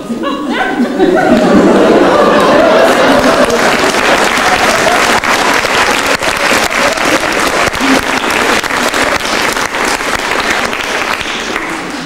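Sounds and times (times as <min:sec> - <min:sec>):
audience applauding: 0:01.6 - 0:12.0.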